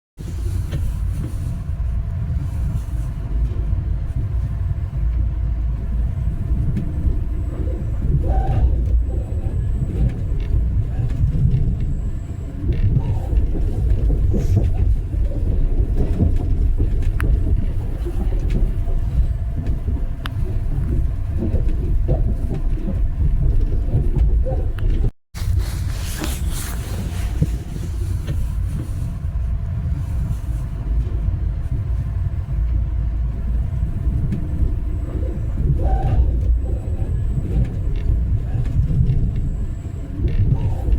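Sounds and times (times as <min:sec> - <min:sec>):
passenger train rumbling: 0:00.2 - 0:40.9.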